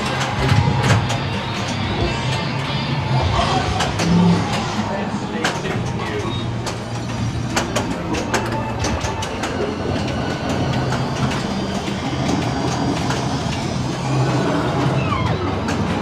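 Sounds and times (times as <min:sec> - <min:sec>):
electronic game sounds: 0:00.0 - 0:16.0.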